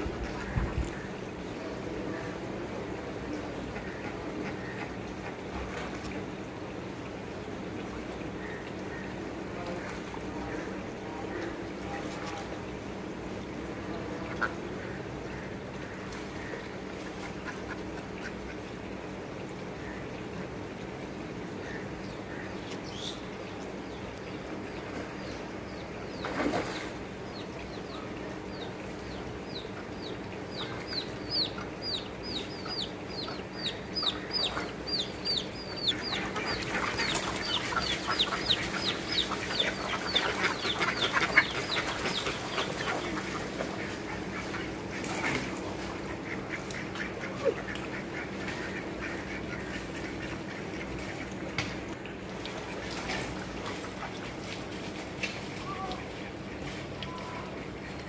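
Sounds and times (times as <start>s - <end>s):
ducks and chickens calling: 0.0s - 11.7s, 13.6s - 19.0s, 21.4s - 51.9s
steady low hum: 0.0s - 58.0s.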